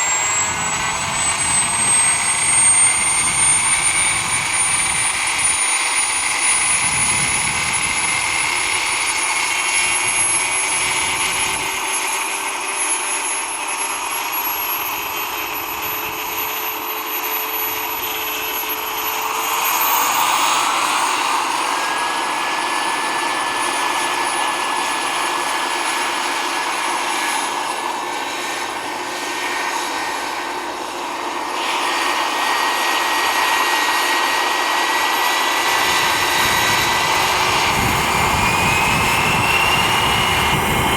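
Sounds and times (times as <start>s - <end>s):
model gas turbine whine: 0.0s - 40.9s.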